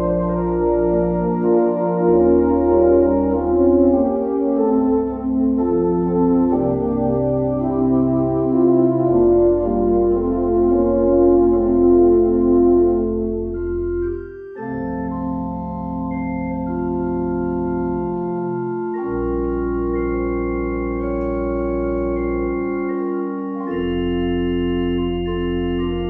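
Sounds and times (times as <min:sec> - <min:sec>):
organ playing slow chords: 0:00.0 - 0:26.0.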